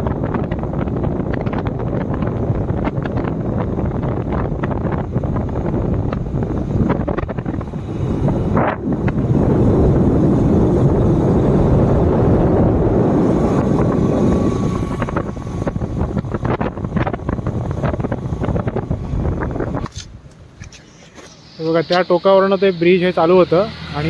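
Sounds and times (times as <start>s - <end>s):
wind buffeting microphone: 0.0s - 21.4s.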